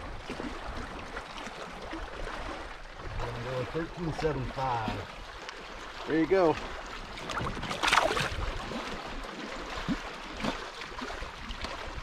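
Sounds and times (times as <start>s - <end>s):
water gurgling and dripping on hull: 0.0s - 12.0s
water splash: 0.0s - 12.0s.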